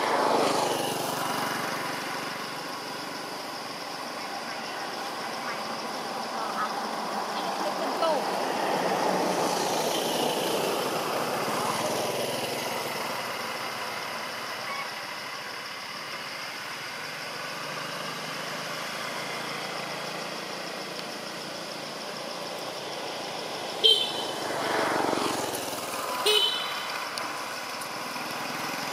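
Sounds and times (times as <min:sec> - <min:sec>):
vehicle engine passing: 0:00.0 - 0:14.5, 0:16.6 - 0:28.9.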